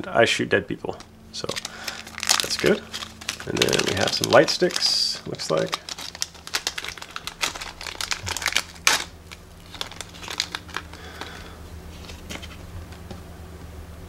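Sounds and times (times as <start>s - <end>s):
plastic bag crinkling: 0.9s - 12.7s.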